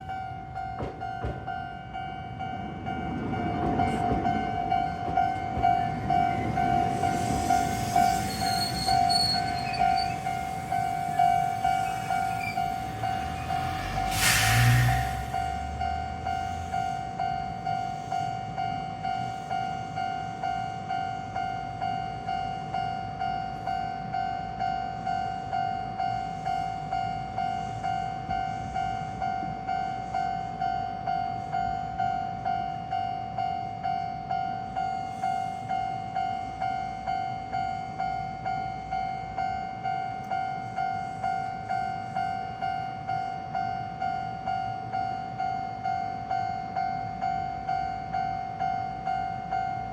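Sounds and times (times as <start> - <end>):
level crossing warning bell clanging: 0.0 - 49.9.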